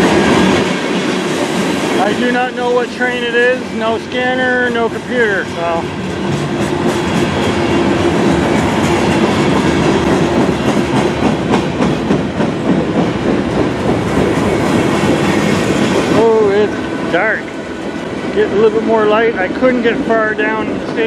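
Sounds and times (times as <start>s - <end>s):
freight train wheels rumbling: 0.0s - 21.0s
wheels clicking over rail joints: 1.2s - 21.0s.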